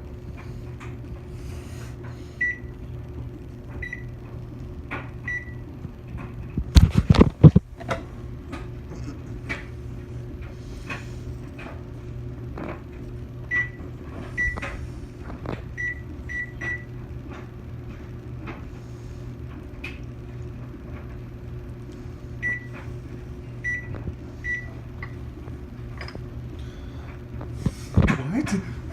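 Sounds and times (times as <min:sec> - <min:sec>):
microwave oven humming: 0:00.0 - 0:28.9.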